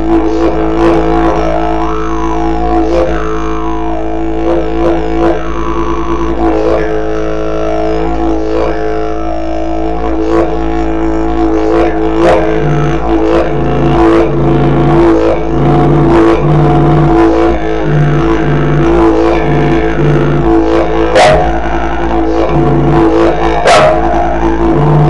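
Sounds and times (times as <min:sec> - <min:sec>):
didgeridoo drone: 0:00.0 - 0:25.0
low pulsing note: 0:00.0 - 0:25.0.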